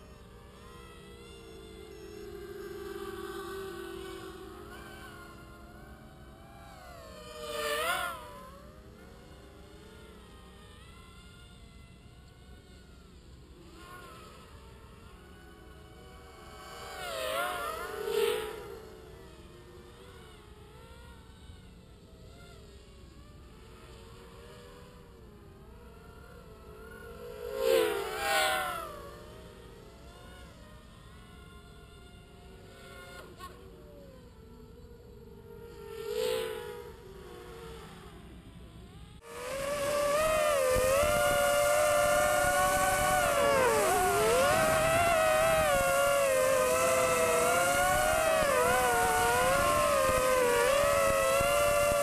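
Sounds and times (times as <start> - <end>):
distant drone motors whining: 0.0 - 52.0.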